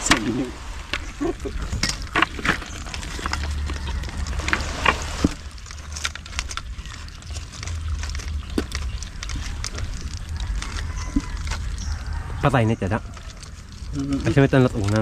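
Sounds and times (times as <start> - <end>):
crabs clicking and knocking: 0.0 - 15.0
low steady rumble: 0.0 - 15.0.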